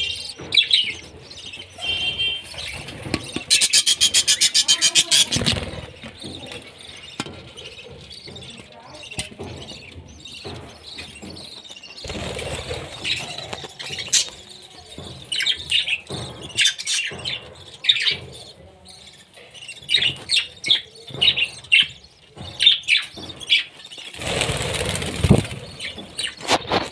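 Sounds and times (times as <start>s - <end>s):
budgerigars chirping: 0.0s - 26.9s.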